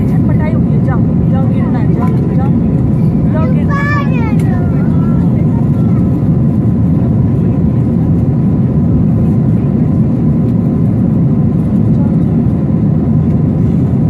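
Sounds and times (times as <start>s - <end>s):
jet engine and airflow roar: 0.0s - 14.0s.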